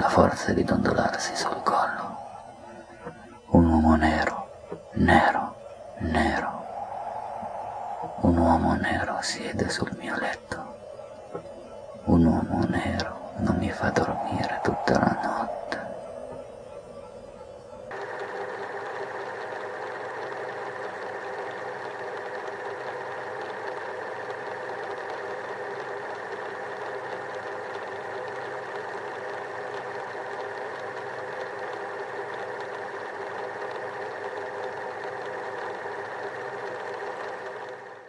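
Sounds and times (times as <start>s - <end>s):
steady drone: 0.0s - 38.0s.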